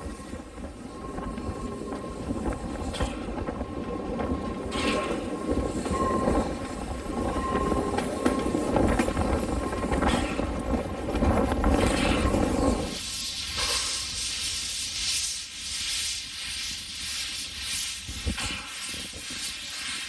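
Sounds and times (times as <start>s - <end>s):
train rumbling clatter: 0.0s - 20.0s.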